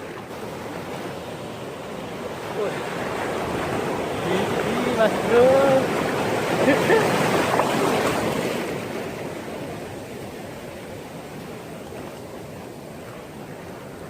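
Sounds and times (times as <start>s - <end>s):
sea surf washing onto shore: 0.0s - 14.0s.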